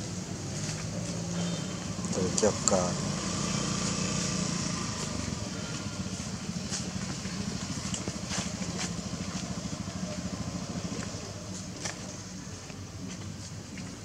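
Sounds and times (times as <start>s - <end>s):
small engine idling: 0.1s - 14.0s.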